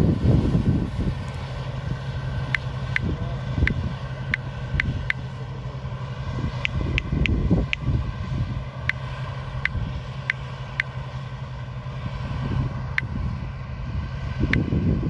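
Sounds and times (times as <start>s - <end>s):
harvester engine rumbling: 0.0s - 15.0s.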